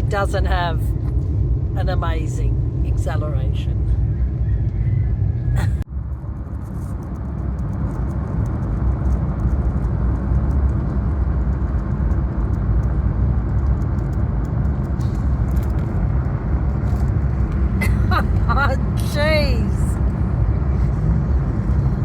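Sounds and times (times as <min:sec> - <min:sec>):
road and tyre rumble in car: 0:00.0 - 0:22.0.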